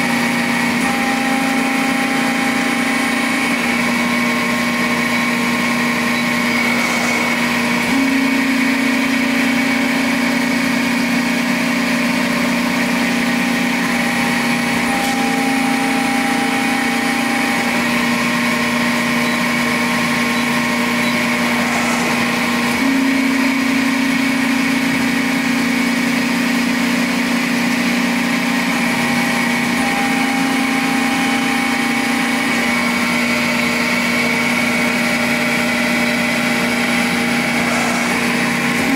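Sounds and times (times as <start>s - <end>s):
hydraulic pump and motor humming: 0.0s - 38.9s.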